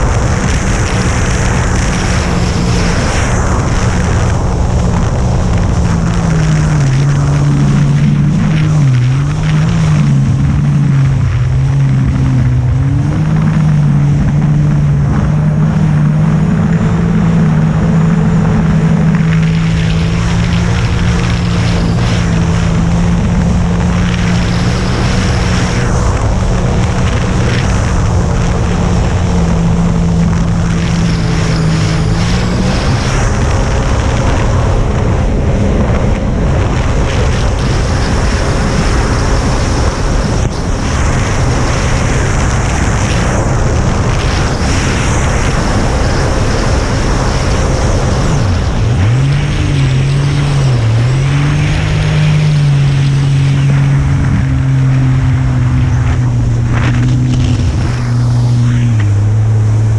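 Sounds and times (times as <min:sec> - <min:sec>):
jet ski engine drone: 0:00.0 - 0:59.9.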